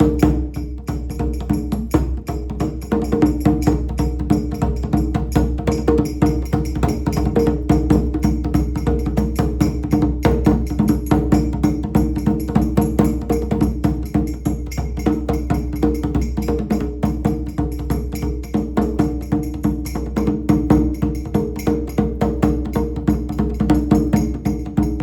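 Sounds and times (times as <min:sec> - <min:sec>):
djembe played by hand: 0:00.0 - 0:25.0.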